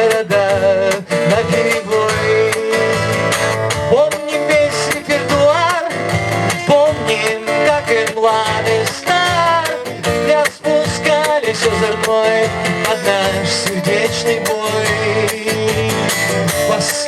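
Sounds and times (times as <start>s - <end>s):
acoustic guitar strumming: 0.0s - 17.0s
bending melody line: 0.1s - 17.0s.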